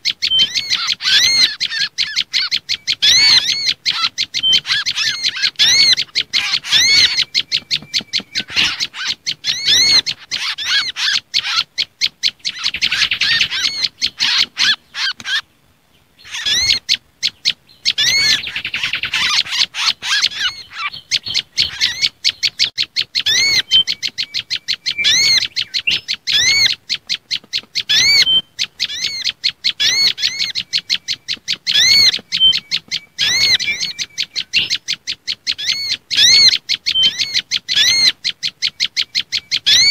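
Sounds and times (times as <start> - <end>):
high arched songbird chirps: 0.0 - 15.4, 16.0 - 39.9.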